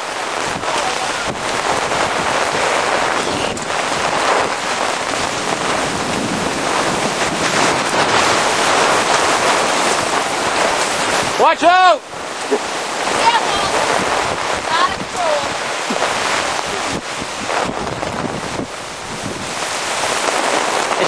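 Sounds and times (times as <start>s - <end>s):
heavy rain: 0.0s - 21.0s
wind buffeting microphone: 0.0s - 21.0s.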